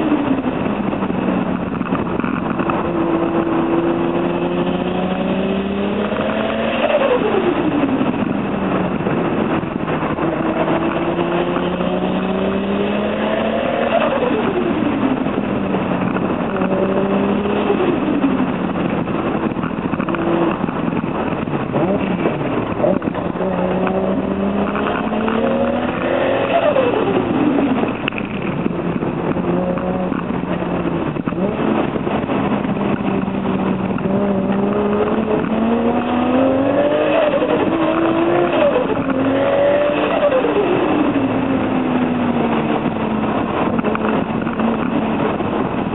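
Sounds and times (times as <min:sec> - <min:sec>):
turbocharged car engine revving: 0:00.0 - 0:45.9.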